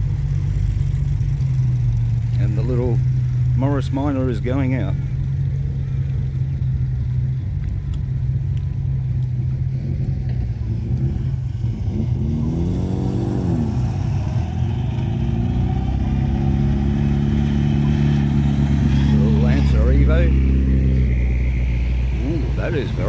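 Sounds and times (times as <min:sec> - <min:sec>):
car approaching: 0:00.0 - 0:23.0
car engine revving: 0:00.0 - 0:23.0
traffic engine hum: 0:00.0 - 0:23.0.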